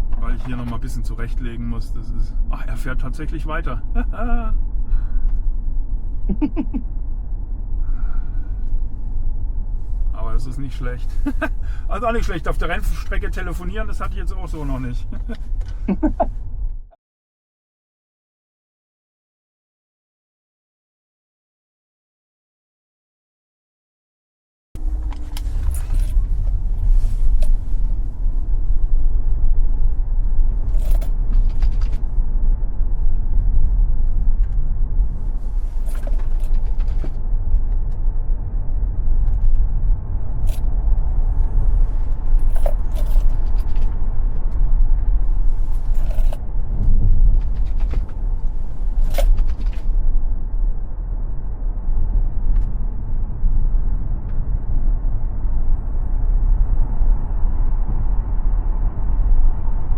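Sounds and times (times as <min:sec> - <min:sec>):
road and tyre rumble: 0:00.0 - 0:16.9, 0:24.8 - 0:59.9.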